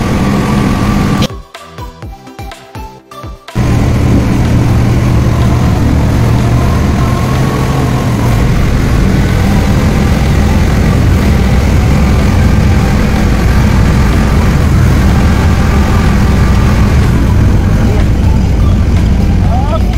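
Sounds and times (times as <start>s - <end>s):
ship engine humming: 0.0s - 1.3s, 3.6s - 19.9s.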